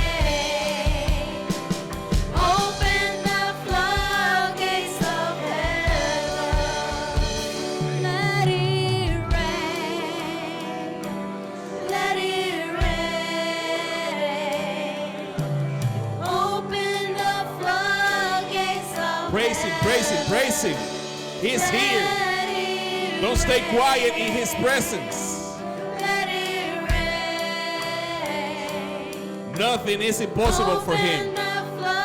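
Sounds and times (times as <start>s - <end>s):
keyboard and band accompaniment: 0.0s - 32.0s
worship team singing: 0.0s - 32.0s.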